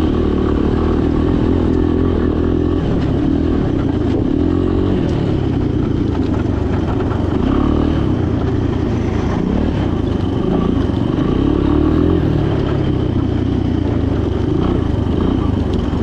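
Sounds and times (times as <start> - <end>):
small engine running under load: 0.0 - 16.0.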